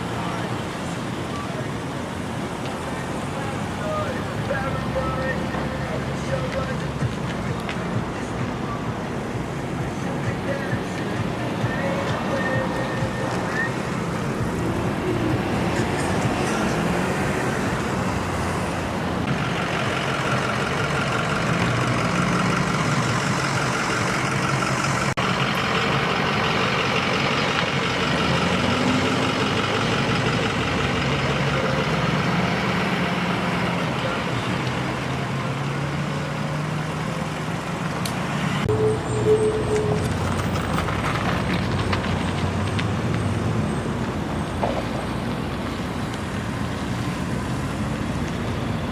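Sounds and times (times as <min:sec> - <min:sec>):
road traffic noise: 0:00.0 - 0:48.9
vehicle engines running: 0:00.0 - 0:48.9.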